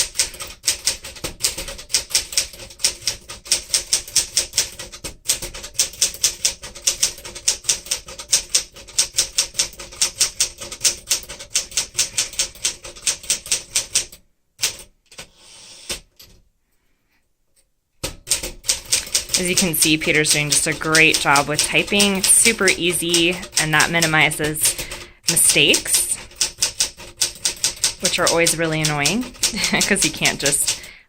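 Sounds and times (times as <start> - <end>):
manual typewriter typing: 0.0 - 16.4, 18.0 - 31.0.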